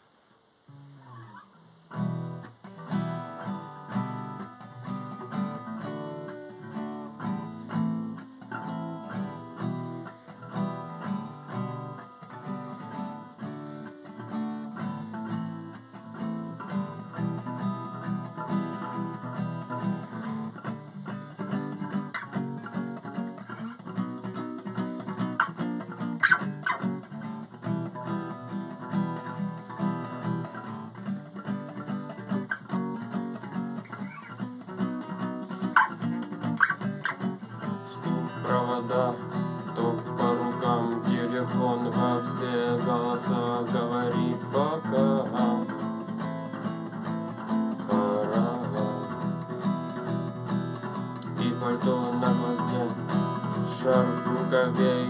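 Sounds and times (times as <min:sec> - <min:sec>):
acoustic guitar strumming chords: 0:00.7 - 0:55.0.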